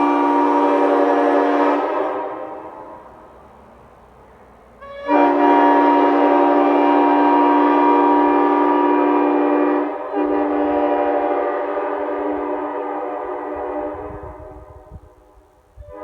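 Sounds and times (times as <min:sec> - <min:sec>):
train horn chord: 0:00.0 - 0:03.4, 0:04.8 - 0:16.0.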